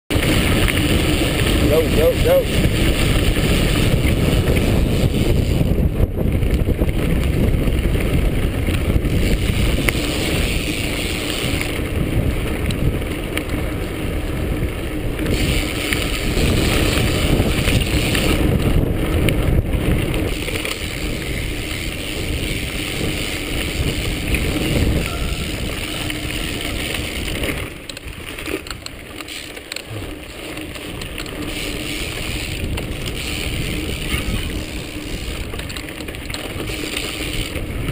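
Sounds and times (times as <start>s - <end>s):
bike rattling: 0.1s - 37.9s
tyres rumbling over dirt: 0.1s - 37.9s
wind rushing over microphone: 0.1s - 37.9s.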